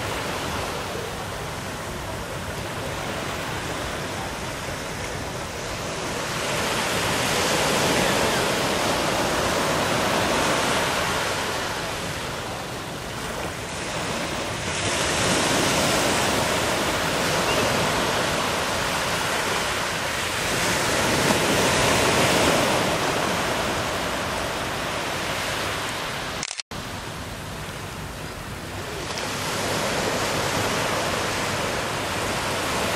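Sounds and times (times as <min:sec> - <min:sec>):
sea waves washing: 0:00.0 - 0:32.9.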